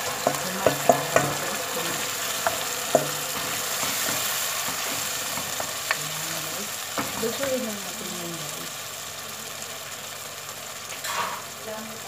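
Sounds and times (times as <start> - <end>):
tomato sizzling in hot oil: 0.0 - 12.0.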